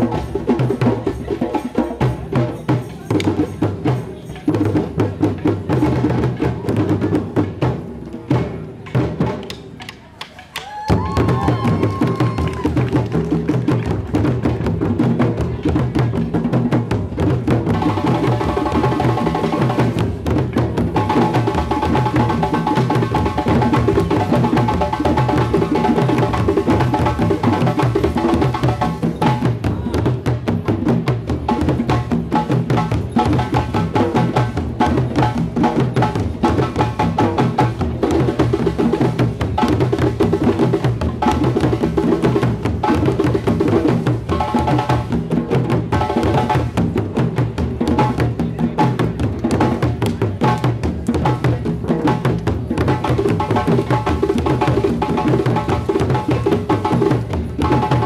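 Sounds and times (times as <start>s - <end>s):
drum circle playing: 0.0s - 58.0s.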